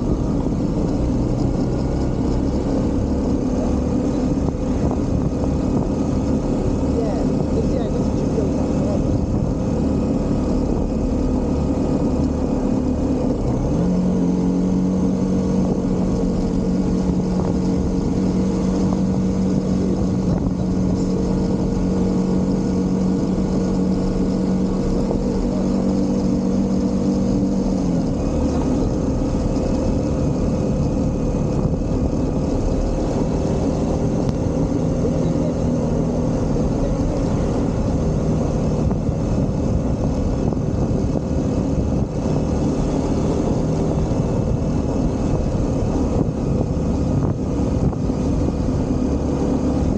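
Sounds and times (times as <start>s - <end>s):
motorcycle engine cruising: 0.0s - 49.9s
wind rush on microphone: 0.0s - 49.9s.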